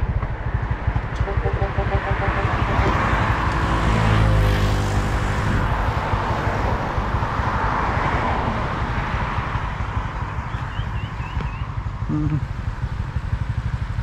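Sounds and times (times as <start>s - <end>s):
road noise rumble: 0.0s - 14.0s
vehicle engine running: 0.0s - 14.0s.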